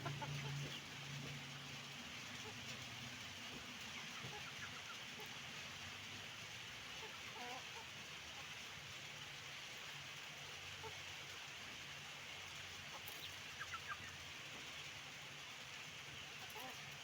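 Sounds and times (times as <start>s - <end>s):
chickens clucking: 0.0s - 6.2s, 6.8s - 11.6s, 12.4s - 15.4s, 16.1s - 17.0s.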